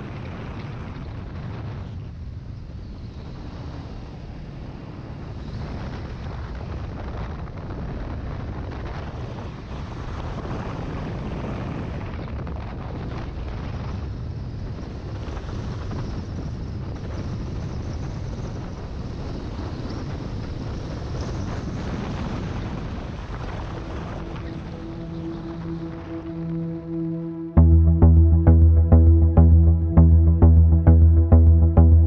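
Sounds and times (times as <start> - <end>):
wind rushing over microphone: 0.0 - 26.7.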